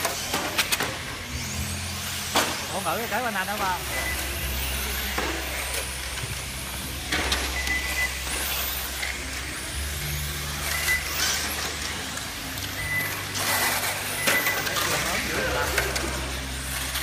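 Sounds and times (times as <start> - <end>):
radio-controlled cars racing: 0.0 - 17.0.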